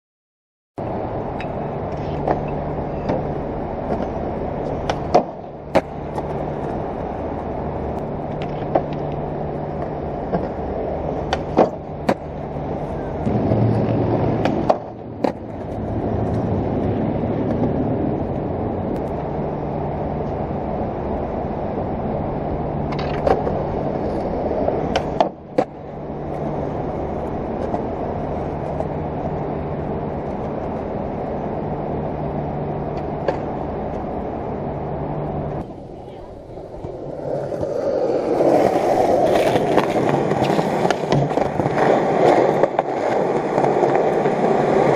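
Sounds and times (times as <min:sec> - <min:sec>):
skateboard clacks: 0:00.8 - 0:19.4, 0:22.8 - 0:30.9, 0:32.8 - 0:34.2, 0:35.6 - 0:44.9
skateboard wheels rolling on concrete: 0:00.8 - 0:44.9
steady low hum: 0:00.8 - 0:44.9.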